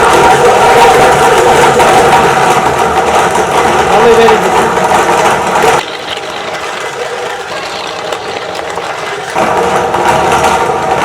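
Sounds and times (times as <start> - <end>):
electric meat grinder motor hum: 0.0 - 11.0.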